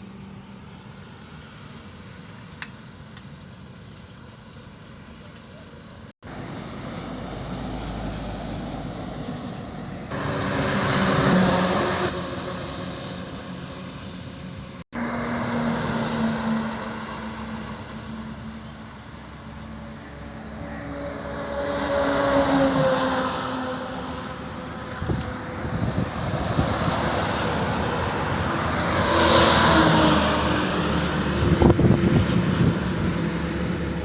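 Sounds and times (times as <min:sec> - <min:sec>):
heavy trucks passing: 0:06.2 - 0:34.0.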